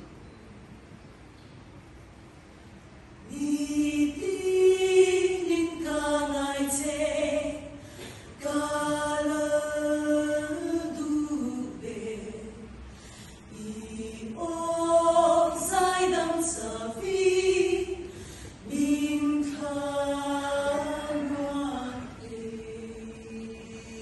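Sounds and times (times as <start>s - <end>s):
choir singing a cappella: 3.2s - 24.0s.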